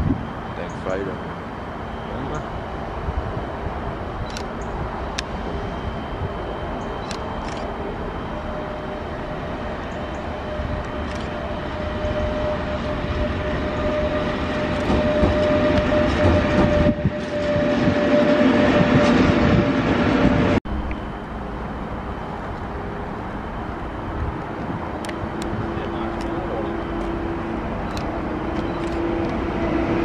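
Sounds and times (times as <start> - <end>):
electric locomotive approaching: 0.0 - 30.0
freight train passing: 0.0 - 30.0
locomotive whining tone: 0.0 - 30.0
rail yard noise: 0.0 - 30.0.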